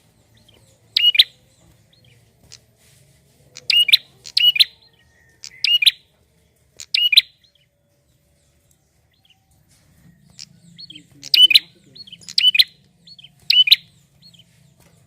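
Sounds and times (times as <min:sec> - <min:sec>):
bird chirping: 0:00.0 - 0:02.8, 0:03.5 - 0:15.0.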